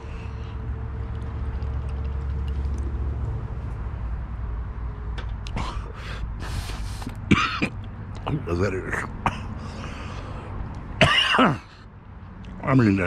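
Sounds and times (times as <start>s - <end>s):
faint steady hum: 0.0s - 13.0s
low engine rumble: 0.0s - 13.0s.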